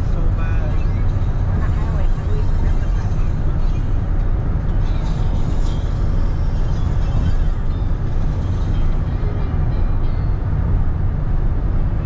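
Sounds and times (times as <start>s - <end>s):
car road and tyre noise: 0.0s - 12.0s.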